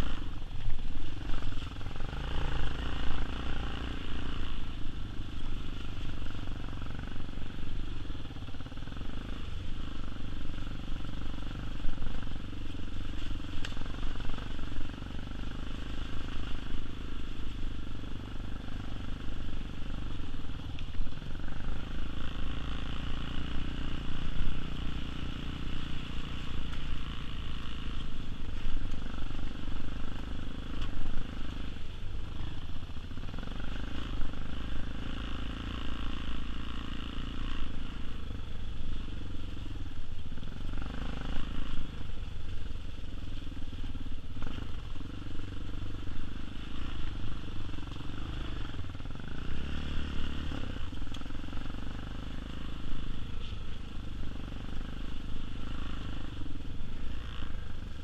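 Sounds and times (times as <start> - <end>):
motorcycle engine running: 0.0 - 58.0
motorcycle rattling over rough dirt: 0.0 - 58.0.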